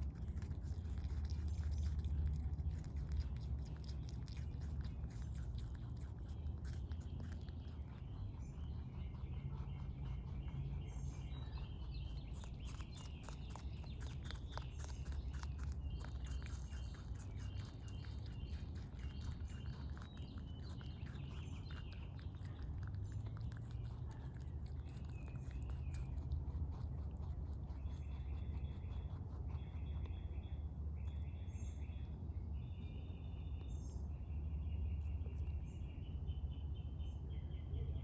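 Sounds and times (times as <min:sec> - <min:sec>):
bird chirping: 0:00.0 - 0:26.8, 0:27.4 - 0:38.0
rabbit chewing: 0:00.0 - 0:36.9.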